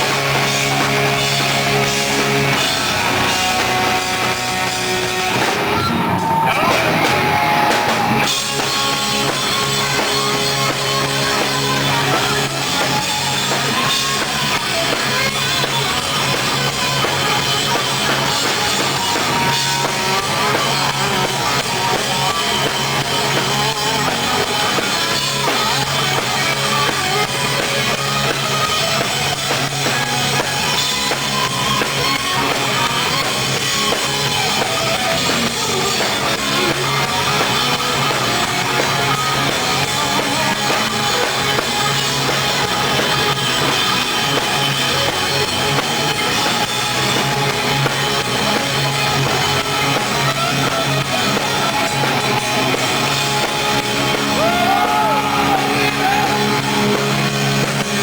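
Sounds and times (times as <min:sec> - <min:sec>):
hard rock band playing: 0:00.0 - 0:58.0.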